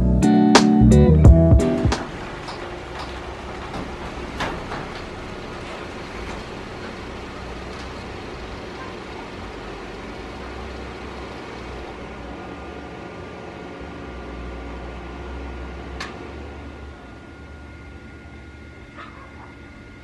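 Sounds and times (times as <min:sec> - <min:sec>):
car engine idling: 0:01.0 - 0:19.7
garage door opener running: 0:01.6 - 0:20.0.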